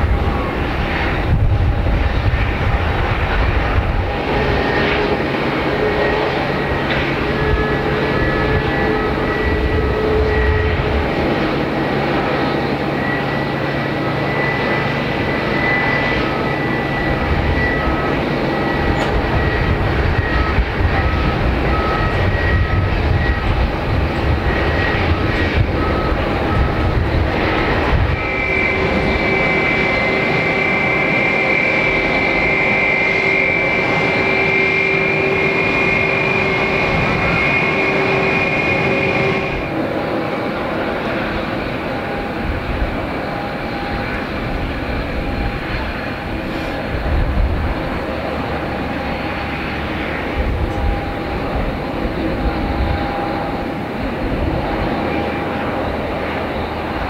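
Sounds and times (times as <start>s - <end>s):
jet engine whine: 0.0s - 57.0s
low jet rumble: 0.0s - 57.0s.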